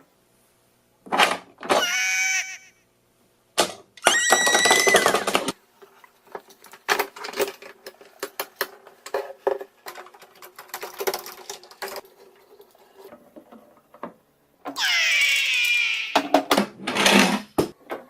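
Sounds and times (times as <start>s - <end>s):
faint steady hum: 0.0s - 14.8s.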